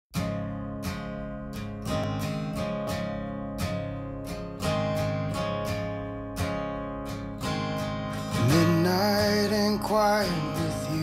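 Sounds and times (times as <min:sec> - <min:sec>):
acoustic guitar picking: 0:00.1 - 0:11.0.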